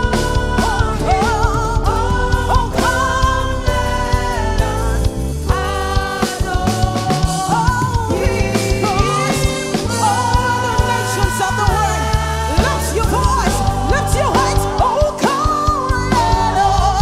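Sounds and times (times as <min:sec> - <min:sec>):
band playing worship song: 0:00.0 - 0:17.0.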